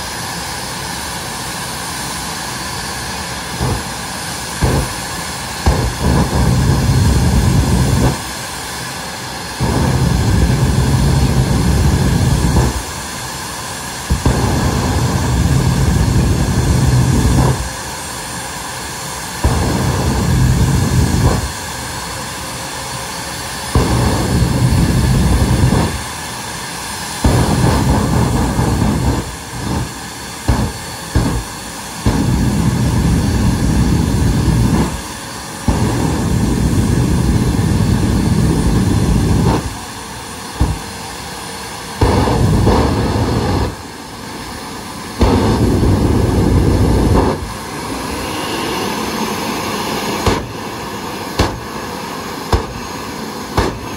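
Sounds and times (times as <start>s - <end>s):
afterburner flame bursts: 0.0s - 53.9s
jet engine whine: 0.0s - 53.9s.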